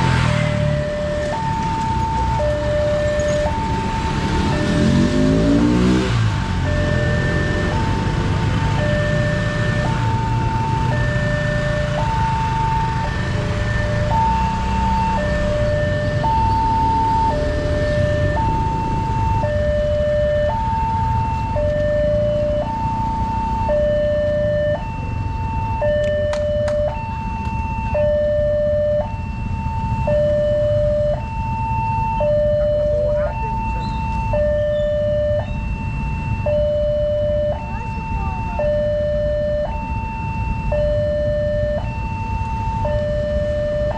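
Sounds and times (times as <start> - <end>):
level crossing two-tone alarm: 0.0 - 43.9
motorbike engines: 0.0 - 43.9.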